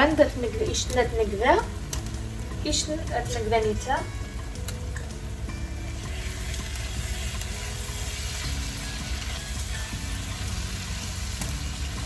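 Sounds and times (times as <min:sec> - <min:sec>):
food sizzling in a pan: 0:00.0 - 0:12.0
soft background music: 0:00.0 - 0:12.0.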